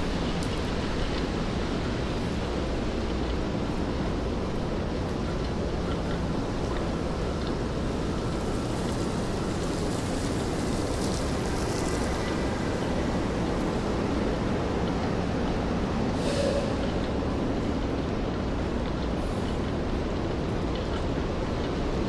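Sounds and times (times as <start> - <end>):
city traffic on wet streets: 0.0 - 22.0
steady rainfall: 0.0 - 22.0.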